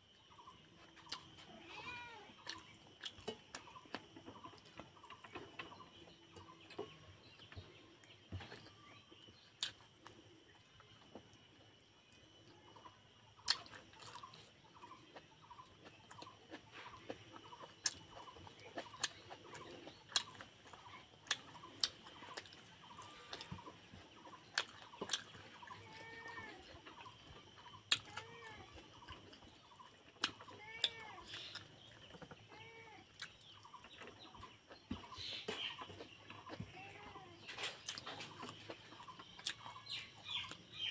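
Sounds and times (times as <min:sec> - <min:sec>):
chickens clucking: 0:02.4 - 0:10.3, 0:11.0 - 0:40.9.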